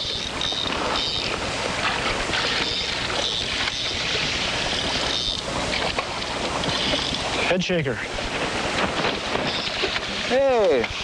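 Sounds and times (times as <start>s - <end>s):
water washing around boat: 0.0s - 11.0s.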